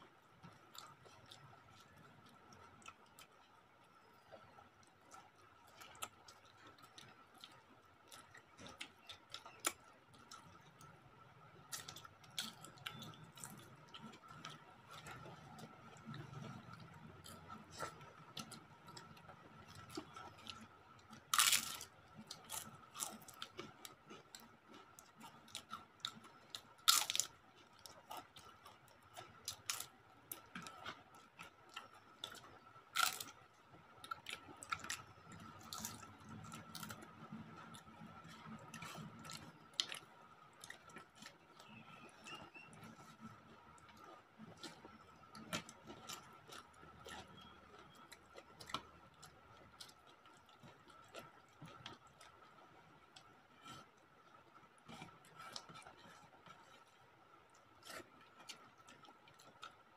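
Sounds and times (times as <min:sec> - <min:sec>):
chewing crisp food: 0:00.1 - 0:59.9.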